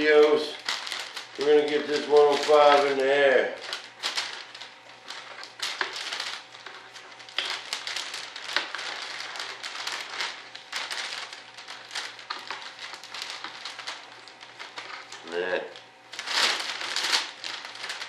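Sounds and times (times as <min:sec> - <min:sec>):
faint steady hum: 0:00.0 - 0:18.0
plastic film crinkling: 0:00.0 - 0:18.0.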